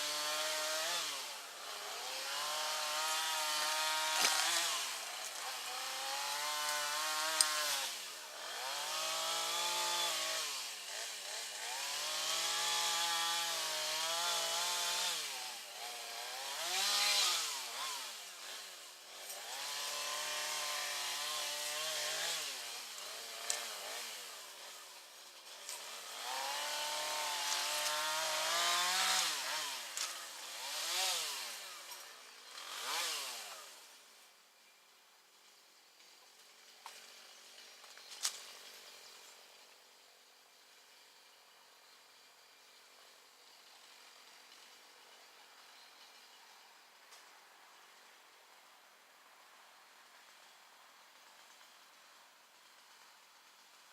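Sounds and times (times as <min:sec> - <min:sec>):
chainsaw cutting and revving: 0:00.0 - 0:34.4, 0:35.4 - 0:46.4, 0:47.1 - 0:53.9.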